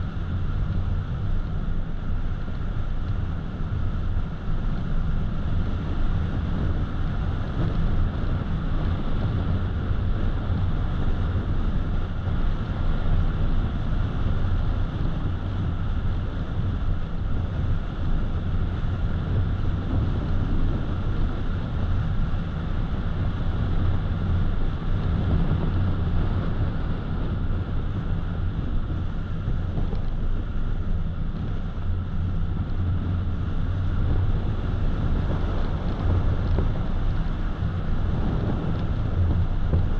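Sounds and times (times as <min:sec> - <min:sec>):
tyre and engine rumble: 0:00.0 - 0:39.9
wind noise: 0:00.0 - 0:39.9.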